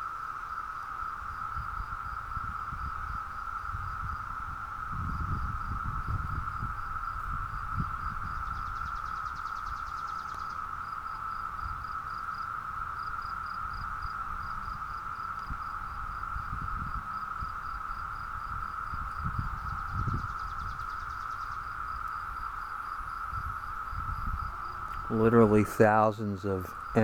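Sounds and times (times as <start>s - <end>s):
cicadas droning: 0.0s - 27.0s.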